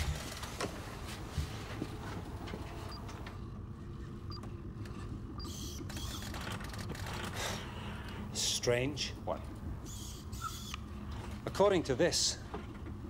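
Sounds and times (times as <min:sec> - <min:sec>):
low spaceship hum: 0:00.0 - 0:13.0.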